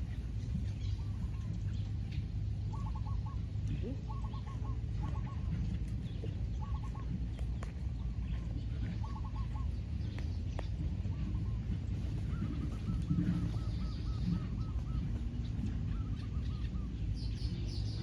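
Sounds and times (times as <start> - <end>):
doves cooing: 0.0 - 18.0
steady low rumble: 0.0 - 18.0.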